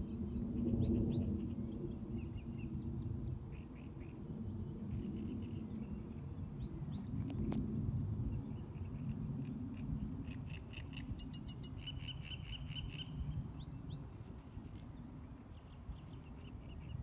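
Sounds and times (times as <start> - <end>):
small birds calling: 0.0 - 17.0
wind rumble on microphone: 0.0 - 17.0.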